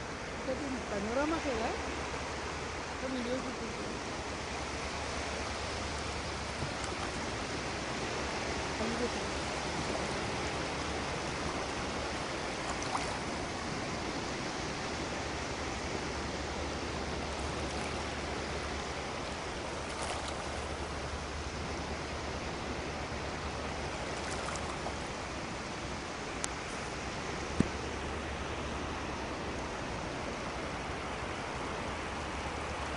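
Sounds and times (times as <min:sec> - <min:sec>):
seawater washing and swirling: 0:00.0 - 0:32.9.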